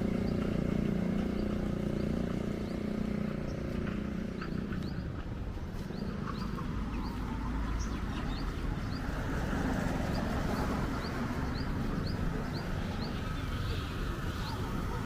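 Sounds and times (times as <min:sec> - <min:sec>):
distant traffic rumble: 0:00.0 - 0:15.0
small birds chirping: 0:00.0 - 0:15.0.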